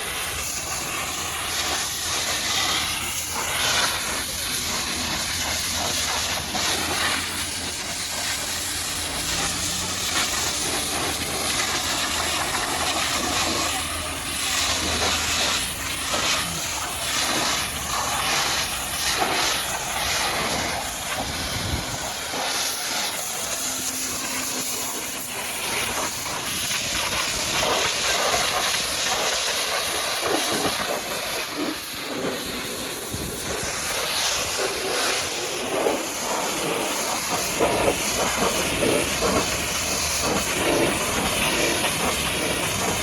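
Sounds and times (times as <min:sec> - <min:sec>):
pressure washer jet spraying: 0:00.0 - 0:43.0.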